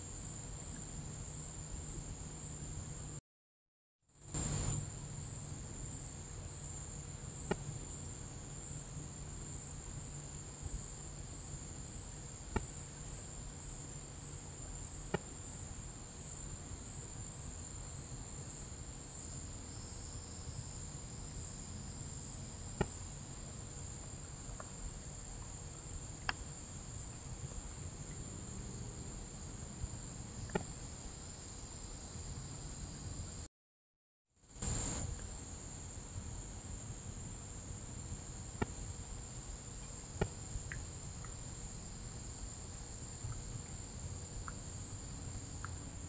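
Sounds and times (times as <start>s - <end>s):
night insects chorus: 0.0s - 3.2s, 4.2s - 33.5s, 34.5s - 46.0s.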